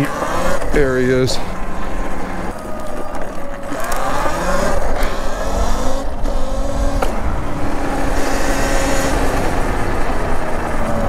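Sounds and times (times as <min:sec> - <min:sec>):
electric motor whining: 0:00.0 - 0:11.0
wind rumble on microphone: 0:01.4 - 0:11.0.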